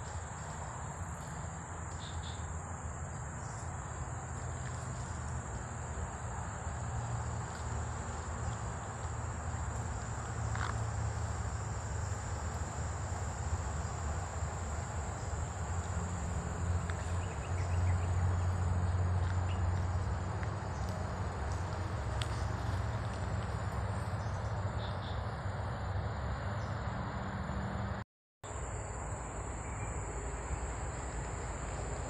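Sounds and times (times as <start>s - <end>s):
insects trilling: 0.0s - 25.6s, 28.5s - 32.0s.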